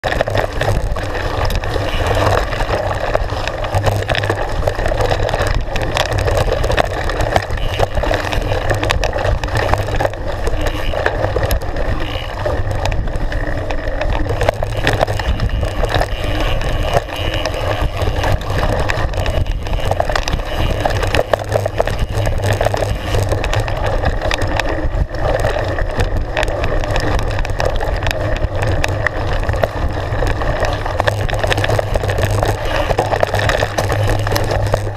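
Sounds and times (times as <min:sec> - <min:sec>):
bike knocks and rattles: 0:00.0 - 0:34.9
bike tyre noise: 0:00.0 - 0:34.9
wind buffeting microphone: 0:00.0 - 0:34.9.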